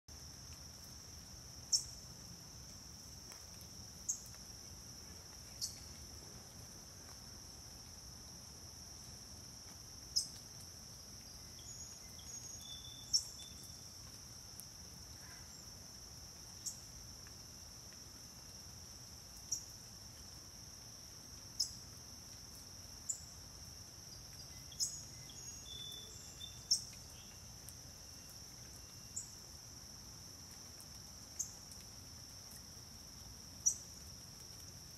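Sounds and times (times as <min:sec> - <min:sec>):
high-pitched insect chorus: 0:00.2 - 0:34.9.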